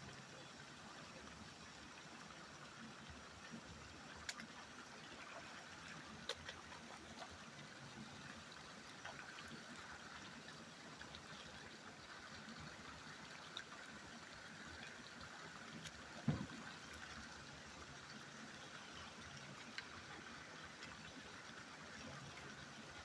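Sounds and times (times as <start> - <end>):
river water flowing: 0.1 - 23.0.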